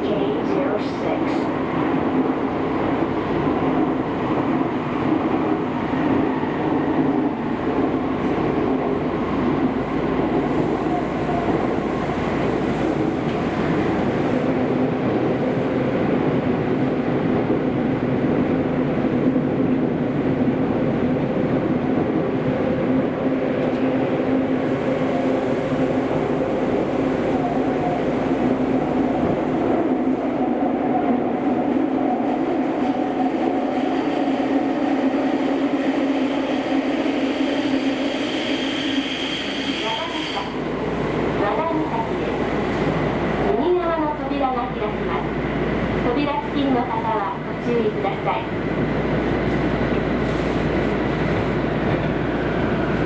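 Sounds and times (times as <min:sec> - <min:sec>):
train wheels rumbling in tunnel: 0:00.0 - 0:53.0.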